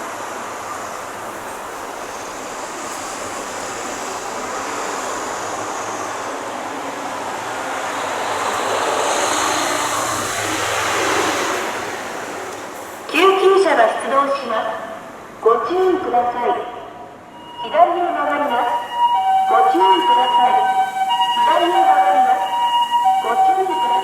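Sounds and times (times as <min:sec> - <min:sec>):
ambulance engine and road noise: 0:00.0 - 0:24.0.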